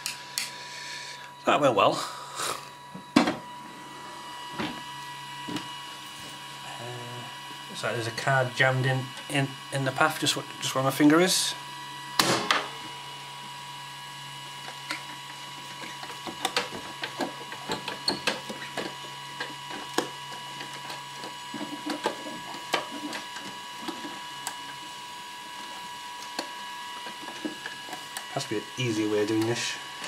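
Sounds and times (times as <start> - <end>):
printer fan humming: 0.0 - 30.0.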